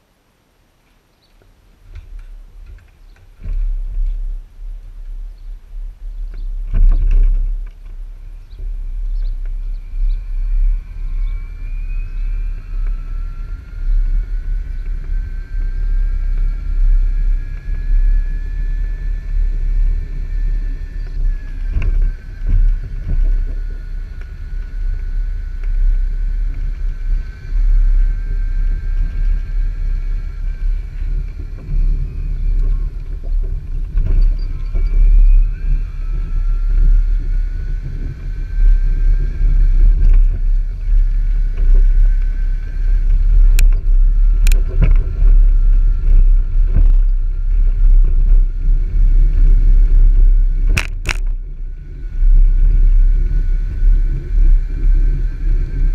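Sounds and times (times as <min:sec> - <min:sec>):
electric motor whining: 0:01.9 - 0:55.9.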